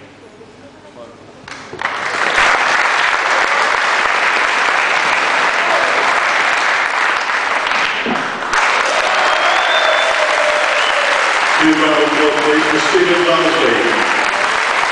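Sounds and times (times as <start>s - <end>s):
audience applauding: 1.5s - 14.9s.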